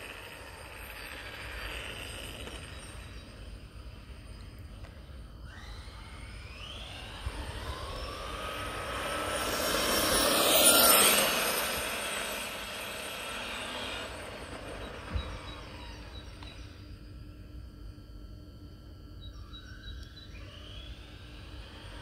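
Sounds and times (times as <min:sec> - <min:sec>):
rc car motor whine passing: 0:00.0 - 0:22.0.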